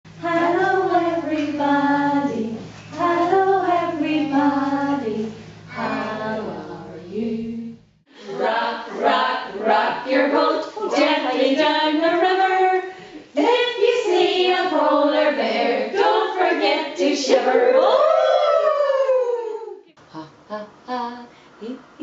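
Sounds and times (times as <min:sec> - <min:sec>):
steady low hum: 0:00.1 - 0:18.2, 0:20.0 - 0:22.0
women singing unaccompanied: 0:00.1 - 0:18.7.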